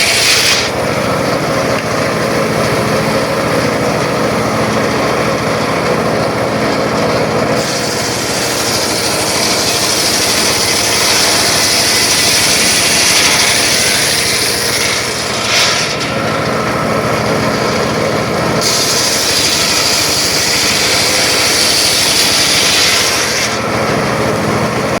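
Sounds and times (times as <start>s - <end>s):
circular saw cutting wood: 0.0s - 25.0s.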